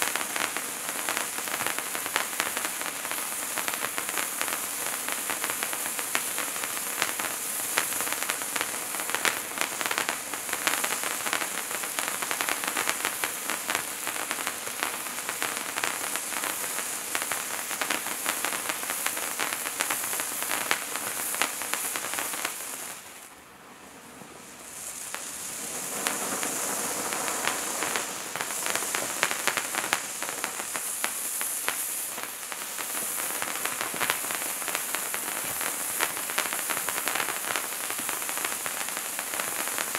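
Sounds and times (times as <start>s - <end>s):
firework fountain hissing and crackling: 0.0s - 39.9s.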